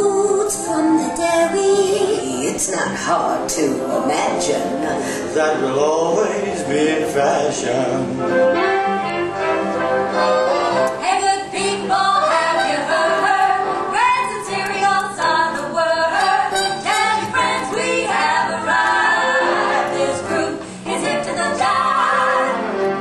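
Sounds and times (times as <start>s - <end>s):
group singing show tune in harmony: 0.0s - 23.0s.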